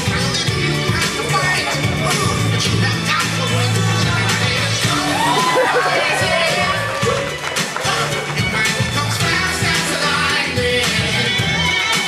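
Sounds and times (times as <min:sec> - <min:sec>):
upbeat music with a beat: 0:00.0 - 0:12.0.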